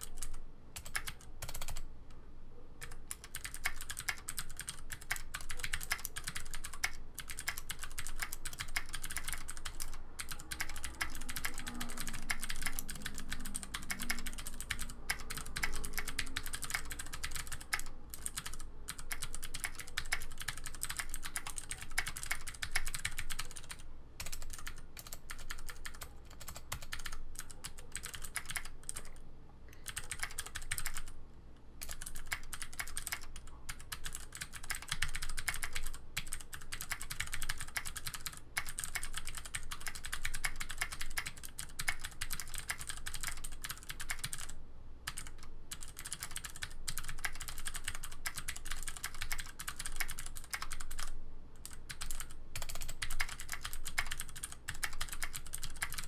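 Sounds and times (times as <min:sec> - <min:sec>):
mechanical keyboard typing: 0:00.0 - 0:01.9, 0:02.8 - 0:29.2, 0:29.8 - 0:31.2, 0:31.8 - 0:56.0.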